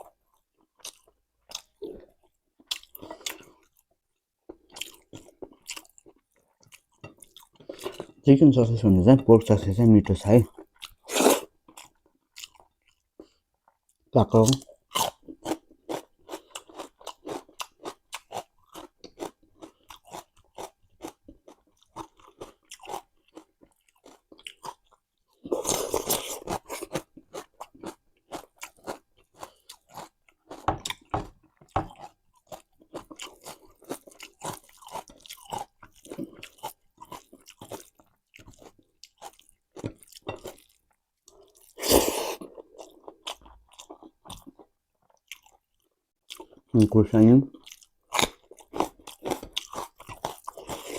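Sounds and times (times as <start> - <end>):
chewing crunchy vegetables: 0.0 - 50.9.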